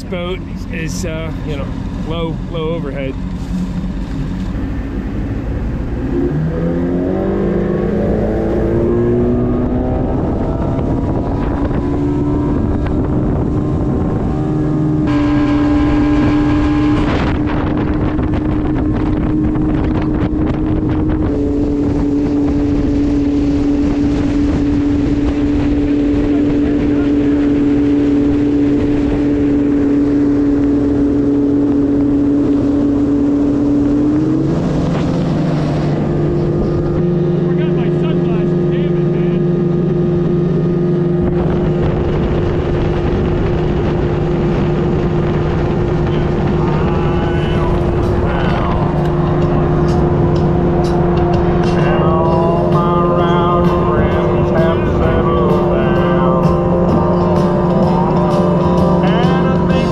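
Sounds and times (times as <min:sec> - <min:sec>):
outboard motor revving: 0:00.0 - 0:59.9
rushing water and wind: 0:00.0 - 0:59.9.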